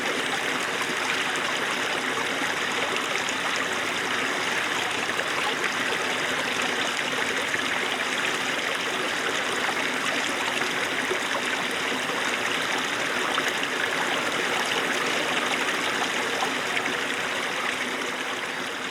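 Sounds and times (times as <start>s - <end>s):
stream babbling over stones: 0.0s - 18.9s.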